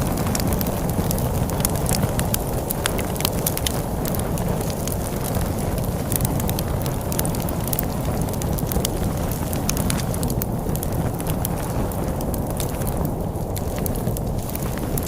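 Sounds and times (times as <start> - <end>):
storm wind rushing: 0.0 - 15.0
wood fire crackling and popping: 0.0 - 15.0.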